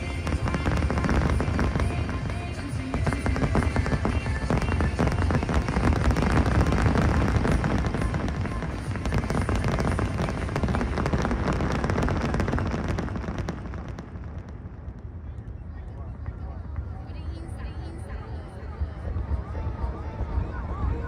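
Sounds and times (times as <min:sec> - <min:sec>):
fireworks bangs and crackles: 0:00.0 - 0:17.6
low rumble: 0:00.0 - 0:21.0.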